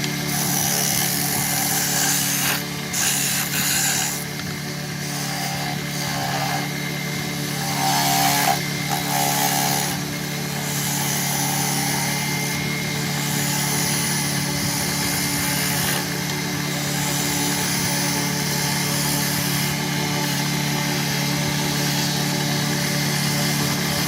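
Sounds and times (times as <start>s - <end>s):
power tool motor humming: 0.0s - 24.0s.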